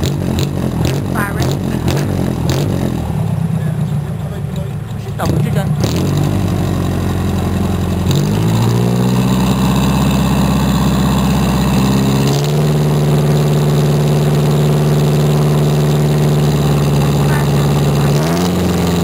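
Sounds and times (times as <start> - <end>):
diesel engine running loudly: 0.0 - 19.0.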